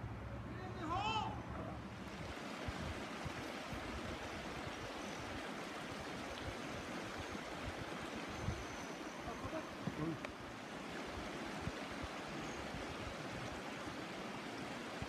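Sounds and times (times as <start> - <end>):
creek running over stones: 1.8 - 15.0.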